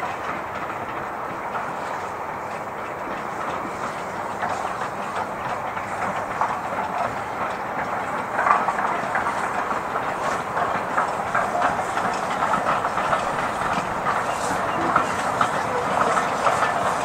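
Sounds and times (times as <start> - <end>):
train rumble: 0.0 - 17.0
wheels clattering on rails: 0.0 - 17.0.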